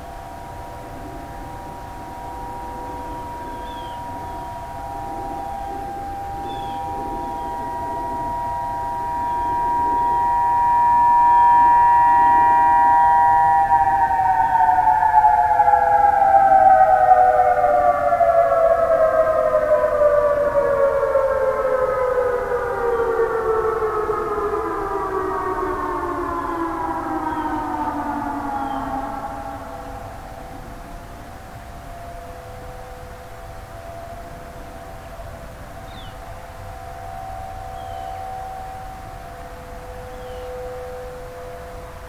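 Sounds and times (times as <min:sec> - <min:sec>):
tornado siren winding down: 0:00.0 - 0:42.0.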